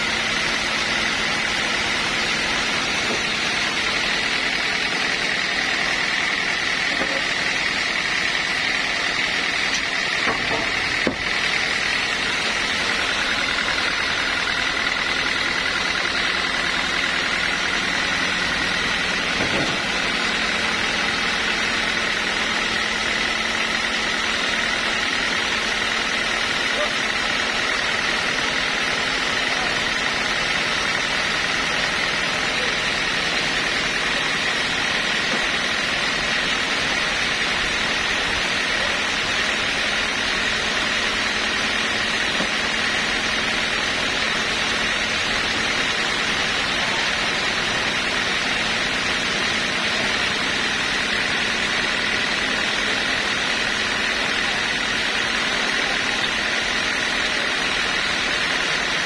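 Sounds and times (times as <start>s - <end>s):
sawmill machinery whine: 0.0s - 59.0s.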